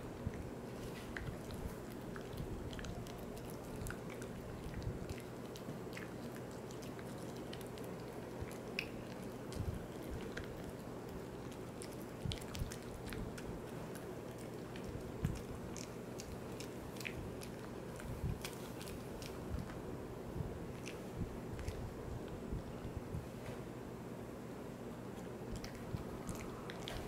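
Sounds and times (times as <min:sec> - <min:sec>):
dog chewing with wet crunching: 0:00.0 - 0:22.8, 0:25.0 - 0:27.0.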